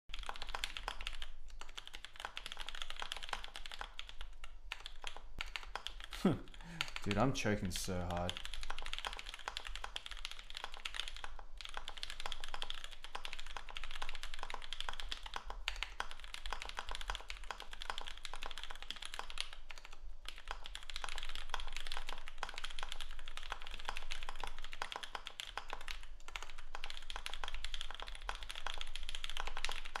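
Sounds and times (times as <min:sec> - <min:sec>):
mechanical keyboard typing: 0:00.1 - 0:30.0.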